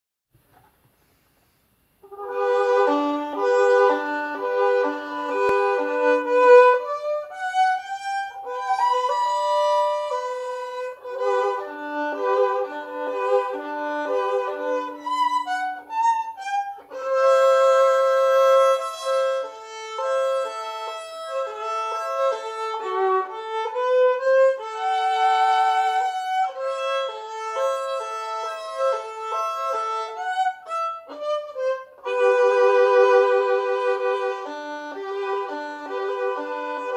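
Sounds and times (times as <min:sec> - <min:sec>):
solo violin melody: 0:02.0 - 0:36.9.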